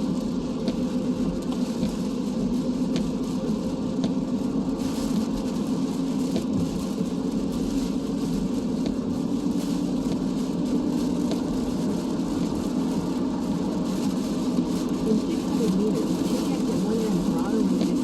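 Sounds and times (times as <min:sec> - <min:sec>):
rain and road spray hiss: 0:00.0 - 0:18.0.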